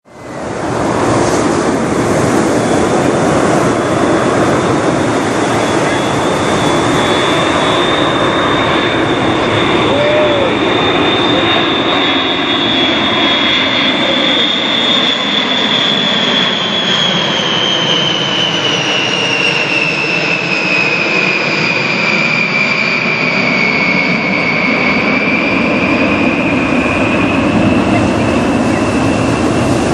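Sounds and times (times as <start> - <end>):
high jet whine: 0.0 - 29.9
jet engines flying overhead: 0.0 - 29.9.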